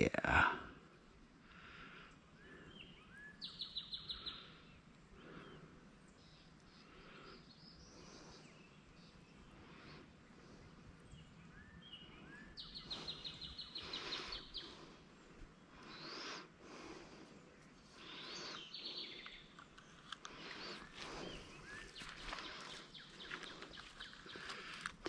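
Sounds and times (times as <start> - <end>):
songbirds trilling: 0.8 - 25.0.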